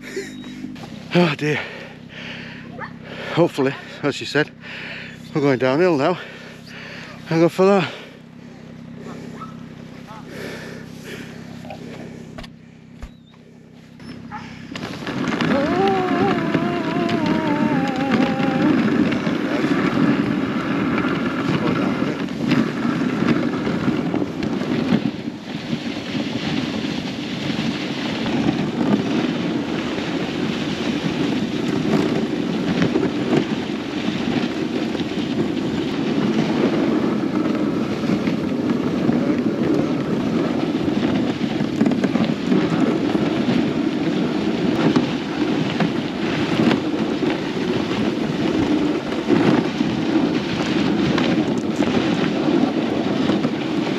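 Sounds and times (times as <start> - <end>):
sled runners scraping on snow: 0.0 - 53.9
wind buffeting microphone: 0.0 - 53.9.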